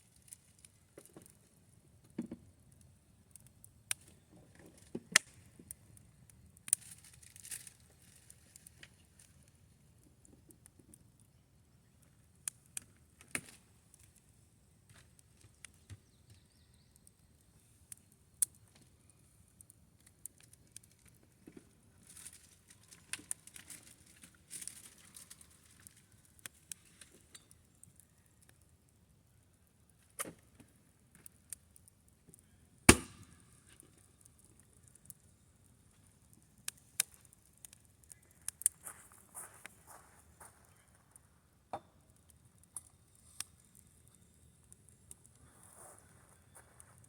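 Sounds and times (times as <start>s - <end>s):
small clicks and pops: 0.0s - 32.5s, 33.2s - 41.2s, 41.8s - 47.0s.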